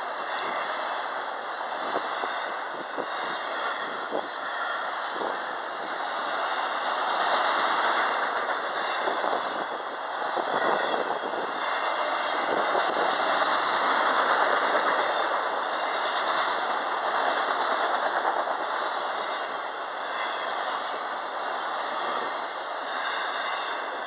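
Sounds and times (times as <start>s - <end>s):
clickety-clack of rail joints: 0.0s - 24.0s
train wheels rolling on rails: 0.0s - 24.0s.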